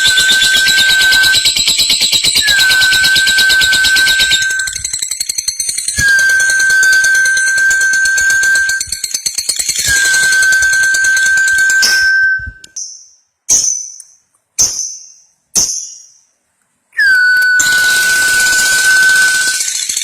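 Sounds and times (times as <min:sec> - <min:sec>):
high bird chirps: 0:00.0 - 0:16.3, 0:17.0 - 0:20.0.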